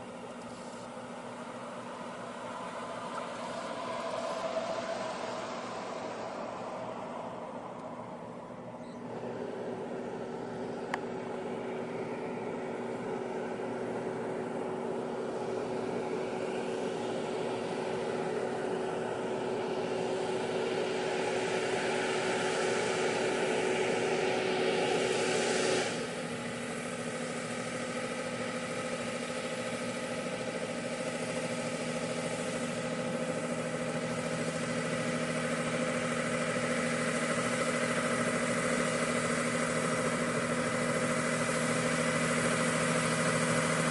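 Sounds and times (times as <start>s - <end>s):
truck engine running under load: 0.0s - 43.9s.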